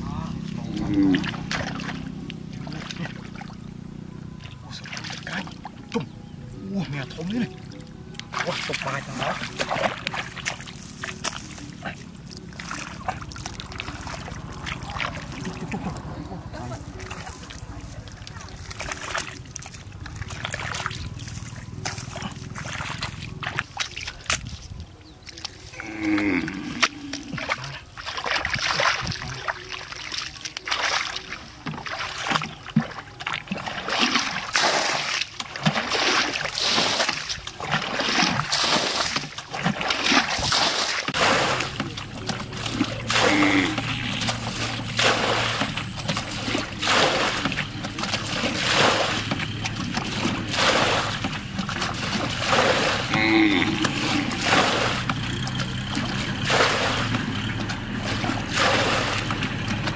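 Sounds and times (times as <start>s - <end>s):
muddy water splashing: 0.0s - 59.9s.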